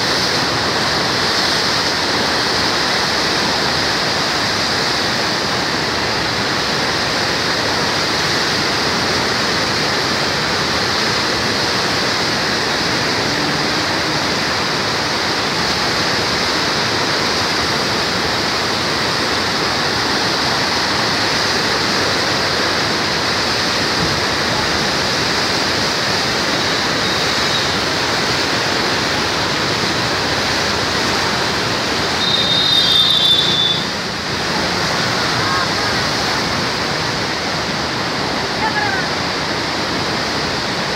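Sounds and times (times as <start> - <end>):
roar of rushing water: 0.0 - 40.9.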